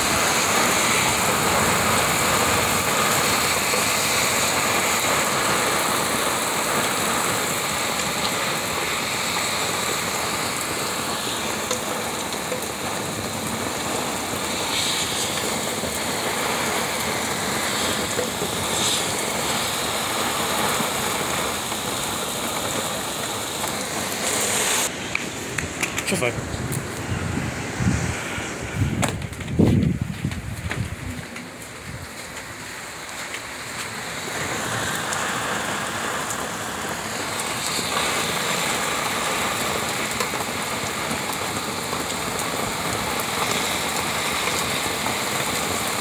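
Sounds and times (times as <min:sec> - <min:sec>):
heavy rain: 0:00.0 - 0:46.0.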